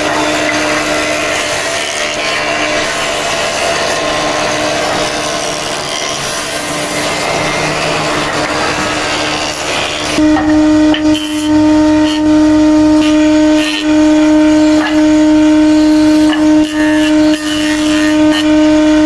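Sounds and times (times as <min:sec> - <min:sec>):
woodworking machine motor humming: 0:00.0 - 0:19.0.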